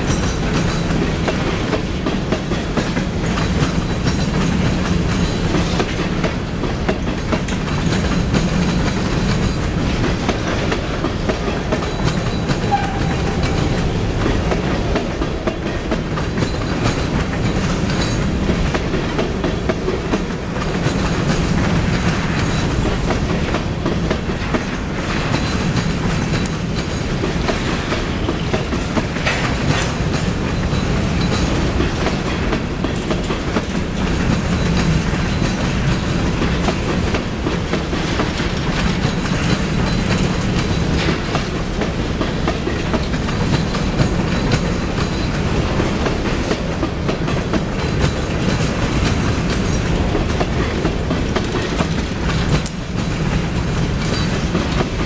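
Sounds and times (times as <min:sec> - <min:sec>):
freight train rumbling: 0:00.0 - 0:55.0
wheels clicking over rail joints: 0:00.0 - 0:55.0.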